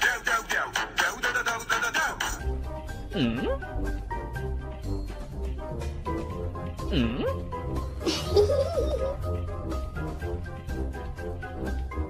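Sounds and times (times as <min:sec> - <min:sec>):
music with high-pitched vocal: 0:00.0 - 0:10.4
music with heavy bass: 0:00.0 - 0:12.0.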